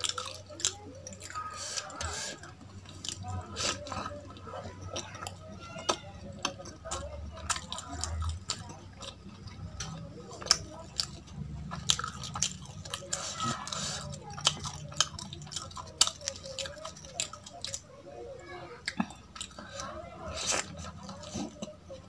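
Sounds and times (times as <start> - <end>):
close chewing with mouth clicks: 0.0 - 22.0.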